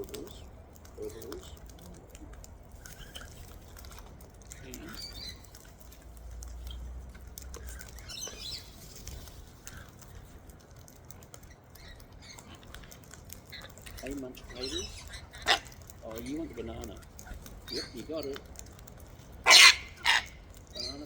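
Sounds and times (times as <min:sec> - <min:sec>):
soft bird chirps: 0:00.0 - 0:10.0, 0:11.3 - 0:18.5, 0:19.5 - 0:21.0
beaks crunching food: 0:00.0 - 0:21.0.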